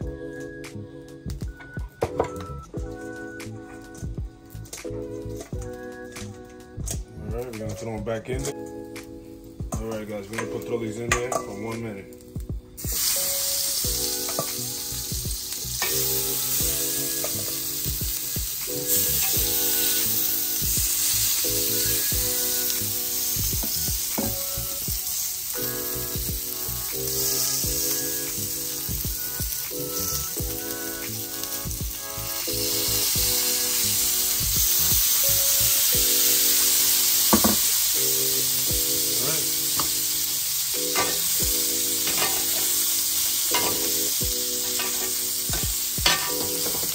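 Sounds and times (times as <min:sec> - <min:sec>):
octopus sizzling on a grill: 0:00.0 - 0:46.9.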